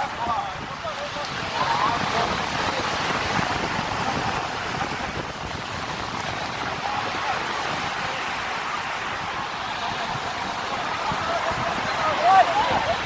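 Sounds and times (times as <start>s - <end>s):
surf rushing: 0.0s - 13.0s
wind buffeting microphone: 0.0s - 13.0s.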